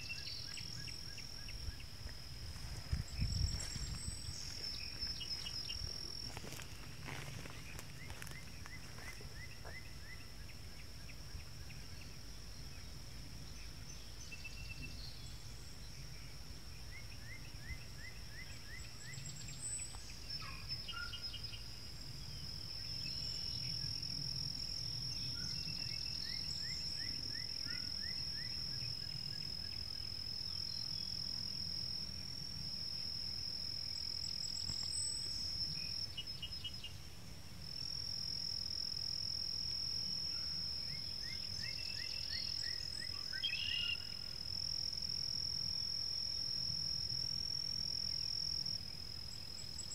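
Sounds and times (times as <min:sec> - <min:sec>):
high-pitched insect trill: 0:00.0 - 0:49.9.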